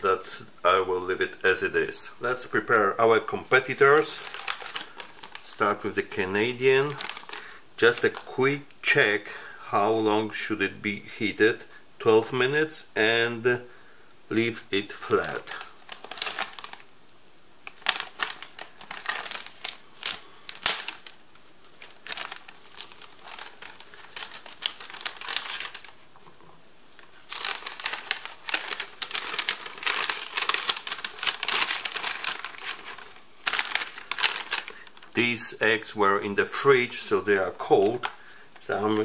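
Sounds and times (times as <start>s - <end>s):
plastic sleeve crinkling: 0.9s - 9.5s, 14.5s - 39.0s.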